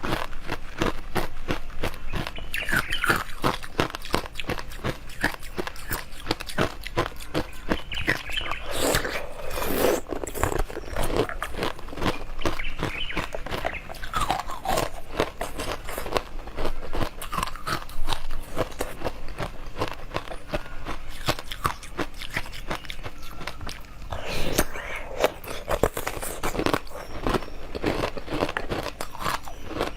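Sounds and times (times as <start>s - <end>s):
person chewing crunchy food: 0.0s - 29.9s.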